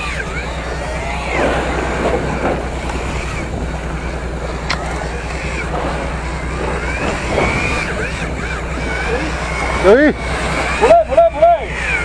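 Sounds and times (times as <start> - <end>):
boat engine humming: 0.0 - 12.0
water splashing against hull: 0.0 - 12.0
wind: 0.0 - 12.0.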